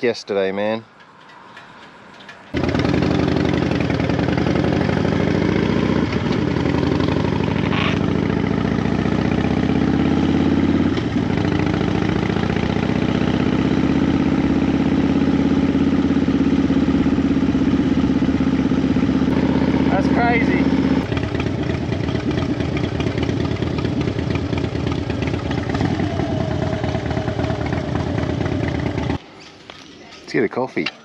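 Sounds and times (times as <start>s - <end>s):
motorcycle engine running: 1.2s - 29.2s.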